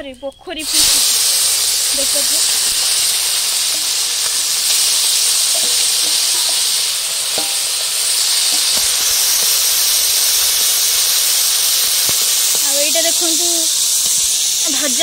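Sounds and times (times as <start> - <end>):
fish sizzling in hot oil: 0.5 - 15.0.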